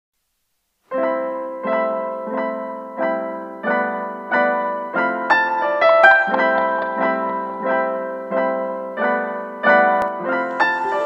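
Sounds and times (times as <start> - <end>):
piano chords: 0.9 - 11.0.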